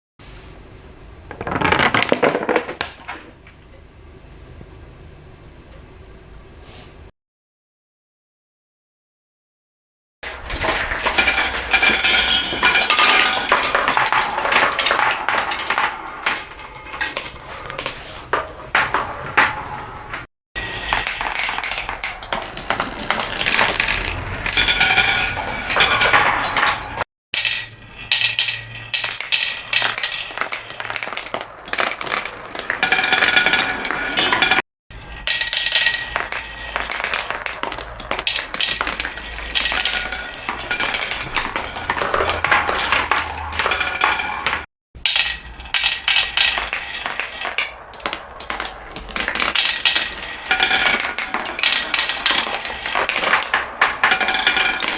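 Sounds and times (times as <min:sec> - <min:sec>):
marbles rolling and clattering: 0:01.3 - 0:03.3, 0:10.2 - 0:54.9.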